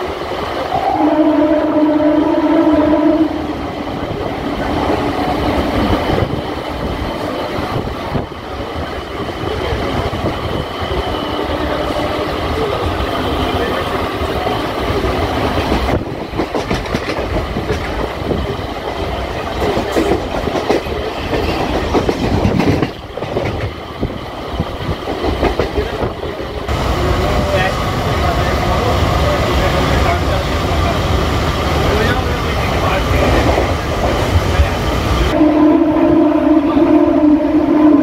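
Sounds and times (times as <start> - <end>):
train wheels clattering on track: 3.8 - 35.4.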